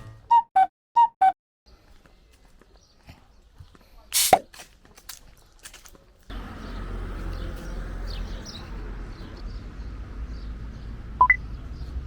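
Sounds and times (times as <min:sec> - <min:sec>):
small birds chirping: 0:01.7 - 0:12.0.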